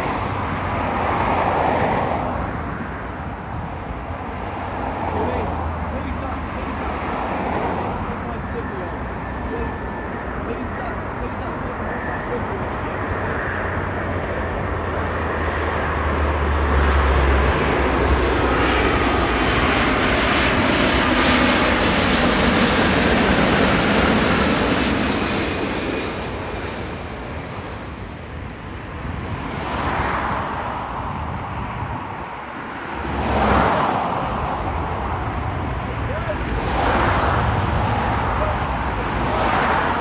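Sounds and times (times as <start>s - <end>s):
jet airliner passing overhead: 0.0s - 40.0s.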